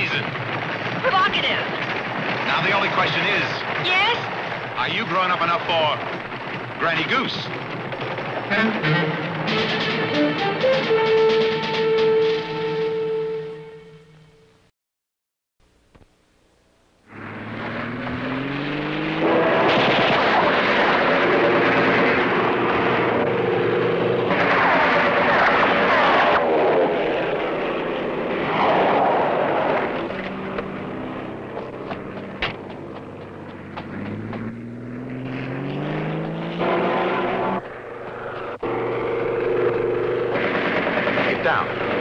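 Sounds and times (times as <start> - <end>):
car engine revving: 0.0 - 12.0, 17.1 - 42.0
propeller engine drone: 0.0 - 14.1, 17.1 - 42.0.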